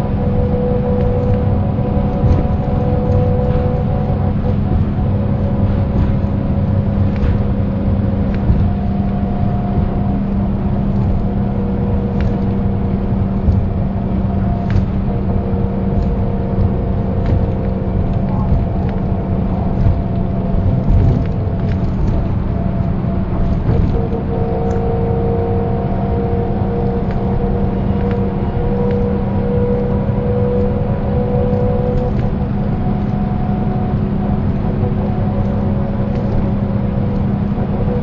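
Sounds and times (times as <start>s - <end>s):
diesel bus engine running: 0.0s - 38.0s
drivetrain gear whine: 0.0s - 38.0s
rattles and clicks: 0.0s - 38.0s.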